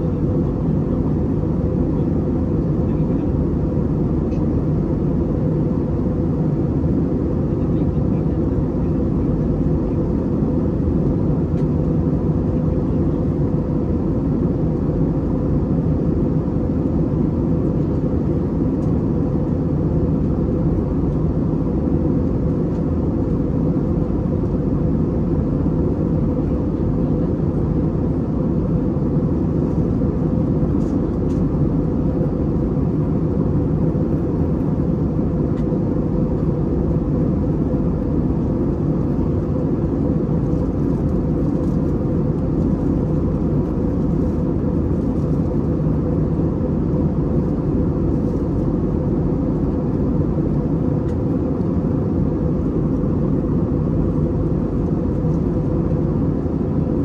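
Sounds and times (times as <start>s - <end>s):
airplane cabin engine rush: 0.0s - 57.0s.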